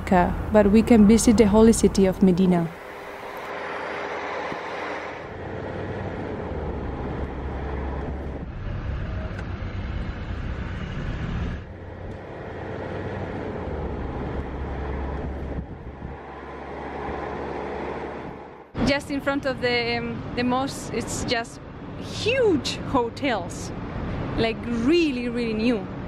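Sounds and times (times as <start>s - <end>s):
vehicle road and engine noise: 0.0s - 26.0s.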